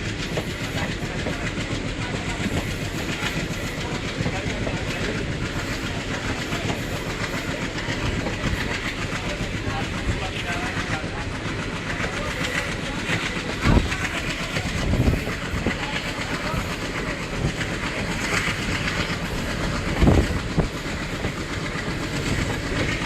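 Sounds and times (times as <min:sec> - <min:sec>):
train rumbling on track: 0:00.0 - 0:23.0
train wheels knocking: 0:00.0 - 0:23.0.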